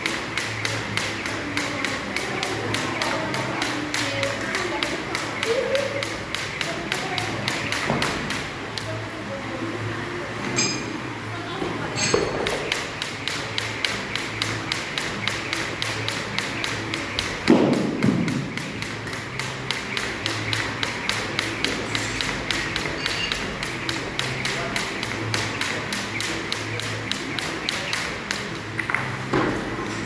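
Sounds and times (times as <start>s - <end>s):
jump rope slapping floor: 0.0s - 8.9s, 12.2s - 29.5s.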